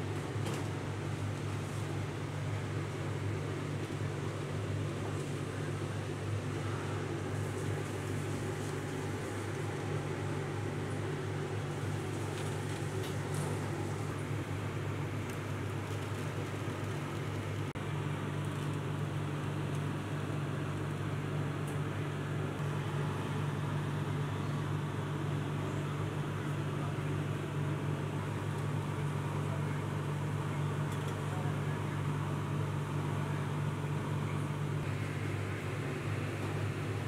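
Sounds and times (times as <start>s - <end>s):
constant low hum: 0.0s - 37.0s.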